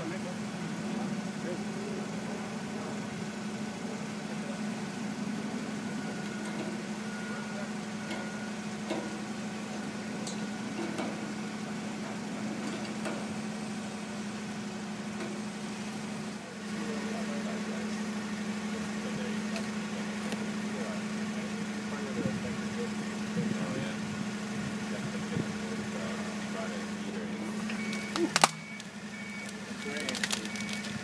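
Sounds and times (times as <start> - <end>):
forklift engine idling: 0.0 - 31.0.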